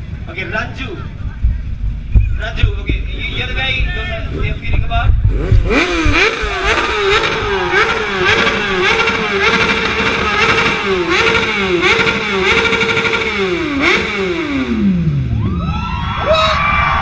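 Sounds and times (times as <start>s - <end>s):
motorbike engine revving: 1.1s - 15.8s.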